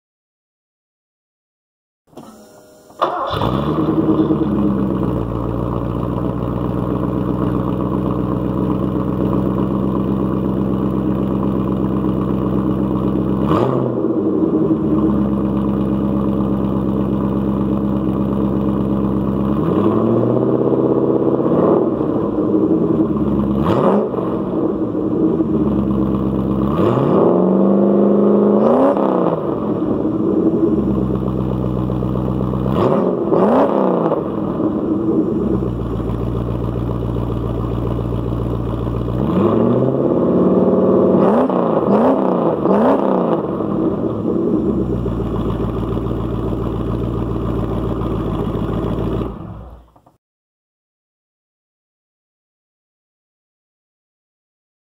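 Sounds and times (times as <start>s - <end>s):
car engine idling and revving: 2.2s - 50.2s.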